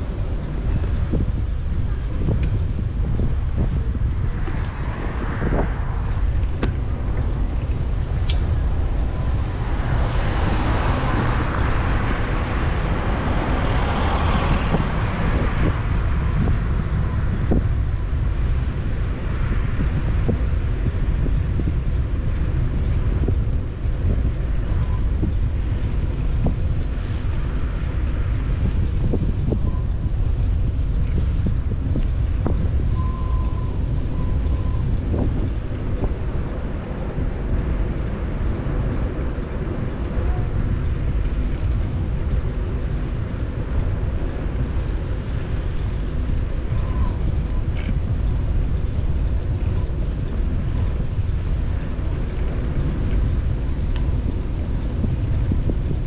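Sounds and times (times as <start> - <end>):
road traffic: 0.0 - 56.0
wind buffeting microphone: 0.0 - 56.0.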